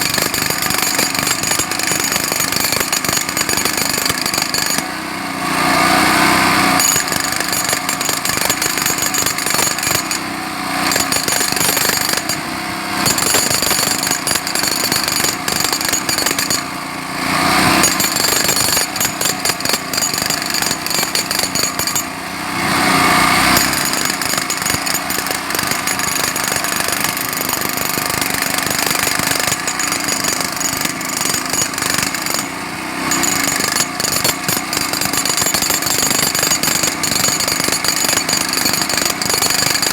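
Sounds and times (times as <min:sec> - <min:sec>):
jackhammer hammering: 0:00.0 - 0:39.9.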